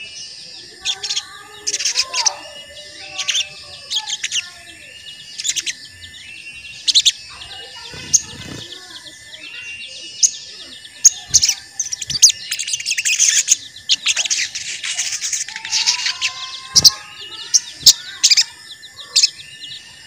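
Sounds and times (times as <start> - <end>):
bird chirping and trilling: 0.0 - 20.0.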